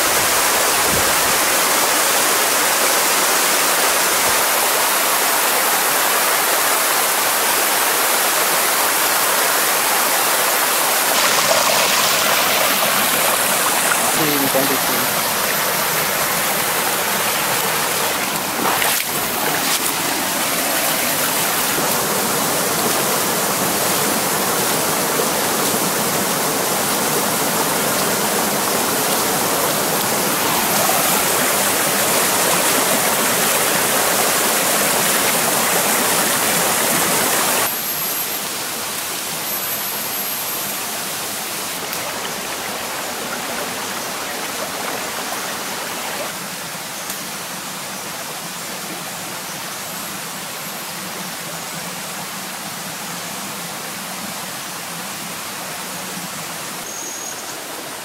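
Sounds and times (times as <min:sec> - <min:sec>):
stream splashing over rocks: 0:00.0 - 0:58.0.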